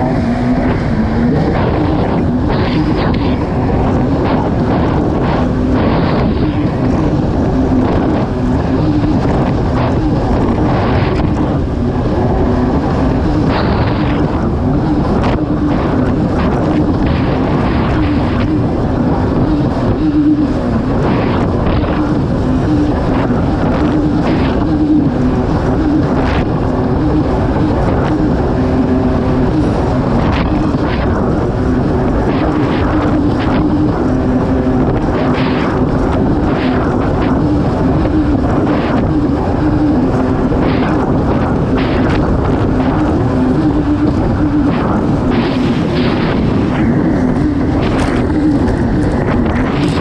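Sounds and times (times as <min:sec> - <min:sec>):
jet ski engine running hard: 0:00.0 - 0:50.0
wind on microphone: 0:00.0 - 0:50.0.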